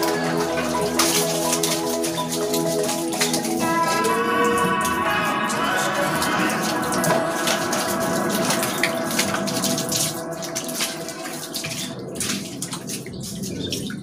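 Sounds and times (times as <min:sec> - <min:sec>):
hose water splashing into pond: 0:00.0 - 0:14.0.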